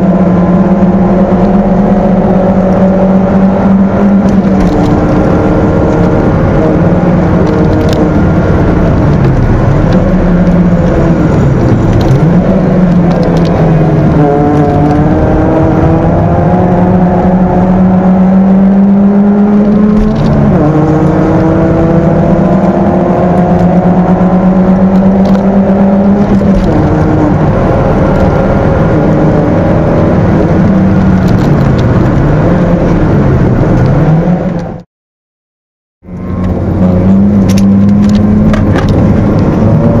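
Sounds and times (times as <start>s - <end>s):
car engine accelerating: 0.0s - 34.8s, 36.0s - 40.0s
road and wind noise: 0.0s - 34.8s, 36.0s - 40.0s.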